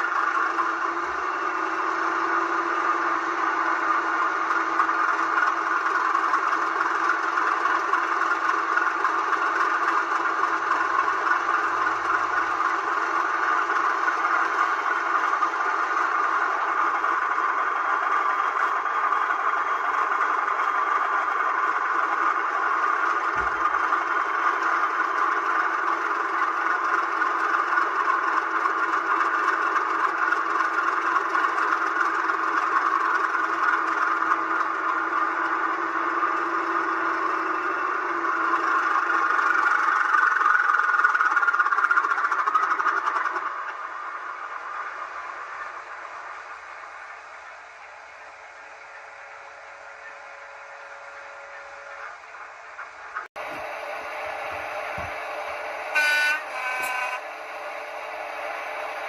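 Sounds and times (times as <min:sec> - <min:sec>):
diesel engine sound from small speaker: 0:00.0 - 0:59.0.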